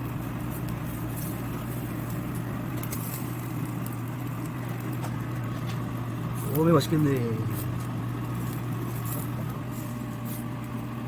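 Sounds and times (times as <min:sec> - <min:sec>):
exhaust hood fan droning: 0:00.0 - 0:11.0.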